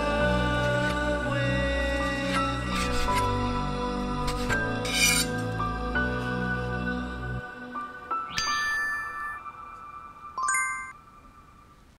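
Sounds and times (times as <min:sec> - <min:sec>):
instrumental music: 0:00.0 - 0:11.8.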